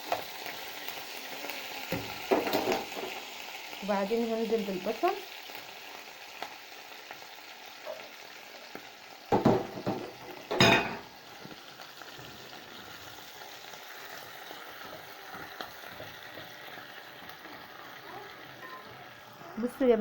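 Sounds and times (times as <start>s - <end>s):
meat sizzling in a pot: 0.0s - 20.0s
onion sizzling and stirring: 0.0s - 20.0s.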